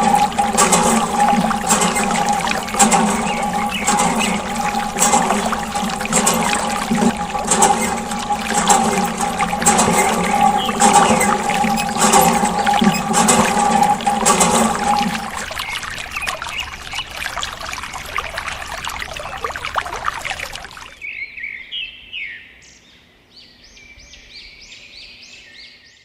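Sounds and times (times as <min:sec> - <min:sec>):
steady hum: 0:00.0 - 0:21.0
water pouring and splashing: 0:00.0 - 0:21.0.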